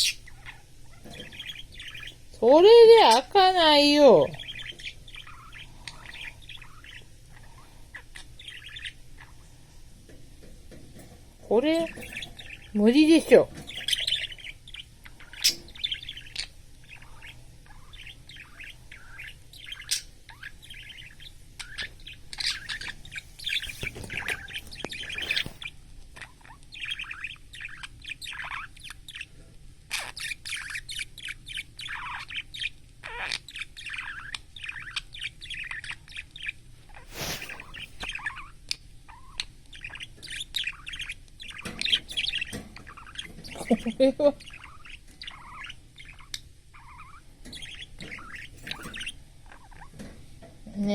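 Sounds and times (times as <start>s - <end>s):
budgerigar chattering: 0.0s - 9.4s, 11.5s - 29.3s, 29.9s - 49.9s.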